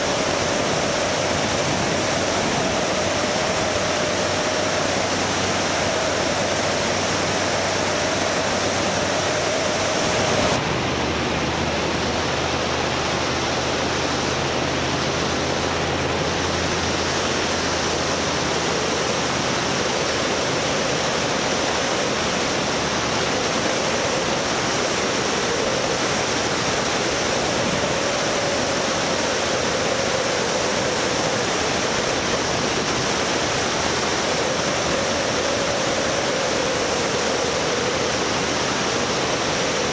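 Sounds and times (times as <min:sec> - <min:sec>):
faint wavering whine: 0:00.0 - 0:39.9
vehicle rushing noise: 0:00.0 - 0:39.9.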